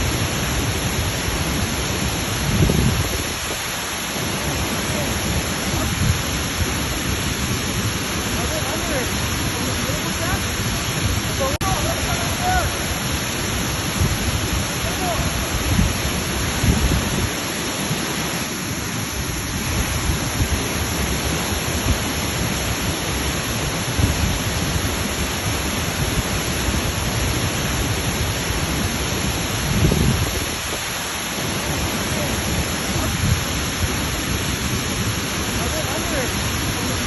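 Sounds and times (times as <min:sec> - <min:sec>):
low water rumbles: 0:00.0 - 0:37.0
waterfall rushing: 0:00.0 - 0:37.0.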